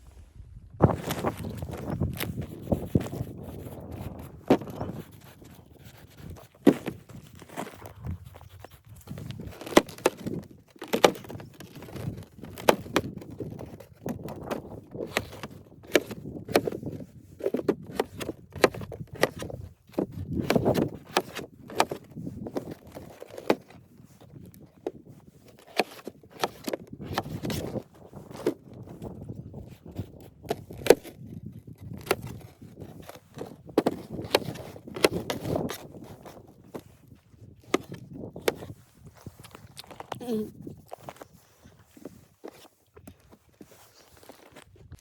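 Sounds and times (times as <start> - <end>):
rustling: 0.0 - 45.0.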